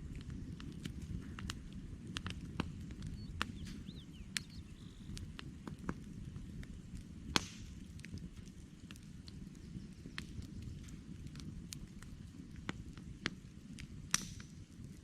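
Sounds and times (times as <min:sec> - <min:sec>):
campfire crackling: 0:00.0 - 0:15.0
fire hissing: 0:00.0 - 0:15.0.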